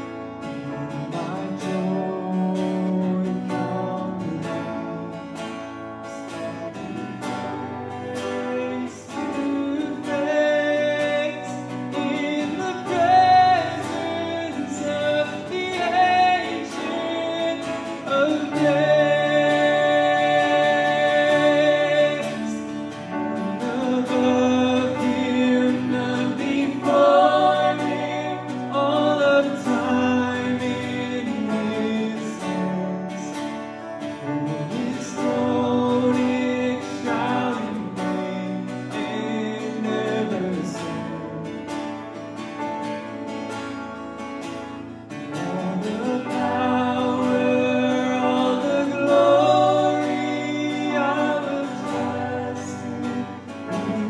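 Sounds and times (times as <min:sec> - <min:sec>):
people singing: 0:00.0 - 0:33.6, 0:34.2 - 0:41.7, 0:45.3 - 0:54.0
acoustic guitar strumming: 0:00.0 - 0:54.0.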